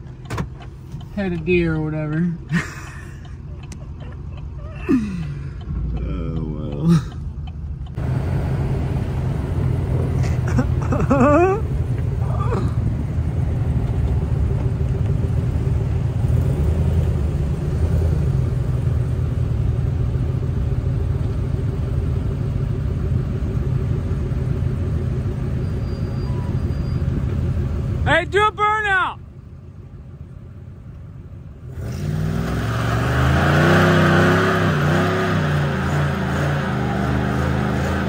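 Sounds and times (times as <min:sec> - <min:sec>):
pickup truck engine rumble: 0:00.0 - 0:28.4, 0:29.2 - 0:38.0.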